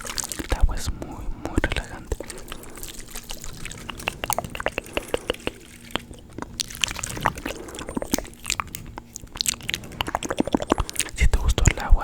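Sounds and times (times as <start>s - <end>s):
water drips and plops: 0.0s - 0.6s, 1.8s - 11.8s
water sloshing and pouring: 0.0s - 0.7s, 1.6s - 11.8s.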